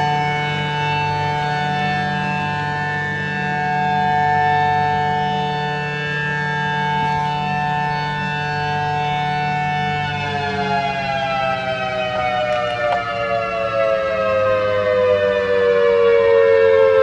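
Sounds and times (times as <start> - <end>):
siren dual-tone chord: 0.0 - 17.0.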